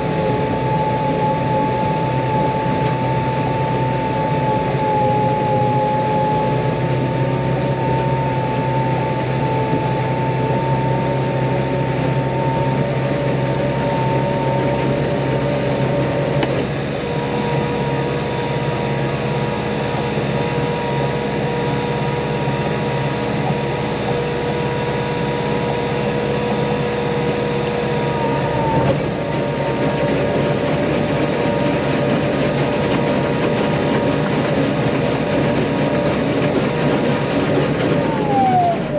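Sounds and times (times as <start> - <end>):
muck spreader whine: 0.0 - 38.9
tractor engine running: 0.0 - 38.9.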